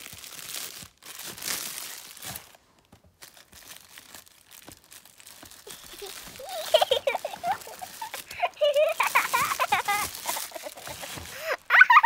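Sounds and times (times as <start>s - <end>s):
plastic packaging crinkling: 0.0s - 12.0s
faint rustles and clicks: 1.6s - 11.7s.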